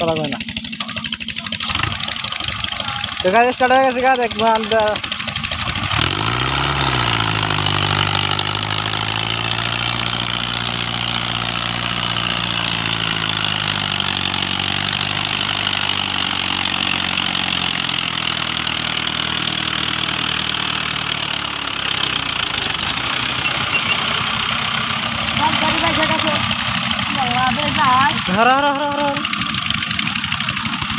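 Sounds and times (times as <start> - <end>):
tractor diesel engine revving: 0.0 - 30.9.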